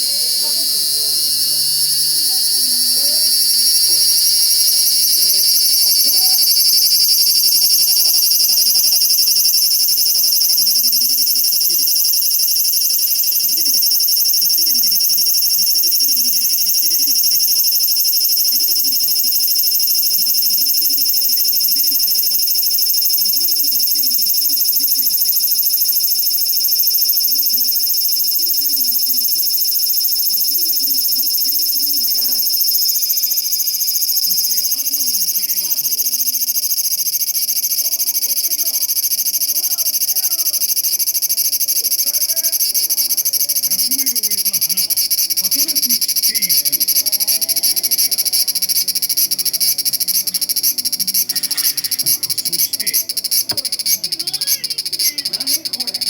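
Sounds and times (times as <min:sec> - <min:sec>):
cicada calling: 0:00.0 - 0:56.0.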